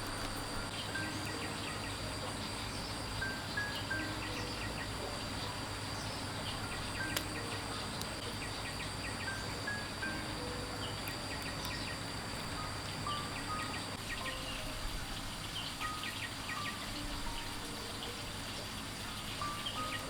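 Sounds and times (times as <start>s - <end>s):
high insect drone: 0.0s - 20.0s
soft slow background music: 0.0s - 20.0s
bird chirps: 0.5s - 20.0s.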